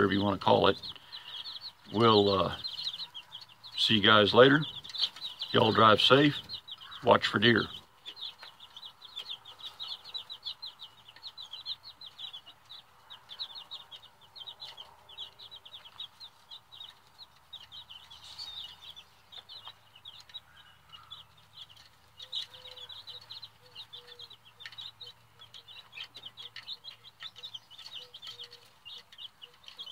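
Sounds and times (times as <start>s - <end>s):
baby chicks peeping: 0.0s - 29.9s.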